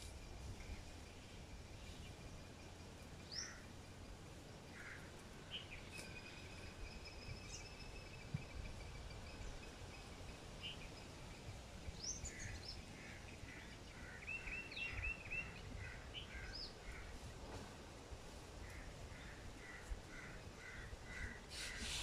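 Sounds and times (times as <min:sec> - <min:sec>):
small birds chirping: 0:00.0 - 0:17.6
low background noise: 0:00.0 - 0:22.0.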